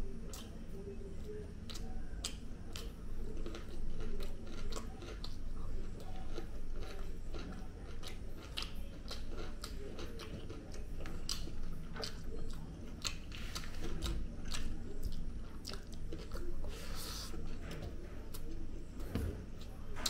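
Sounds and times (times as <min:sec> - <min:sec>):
person chewing food: 0:00.2 - 0:20.0.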